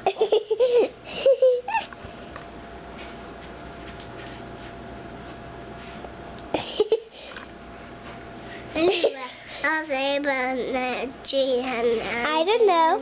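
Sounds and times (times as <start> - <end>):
faint constant hum: 0.0 - 13.0.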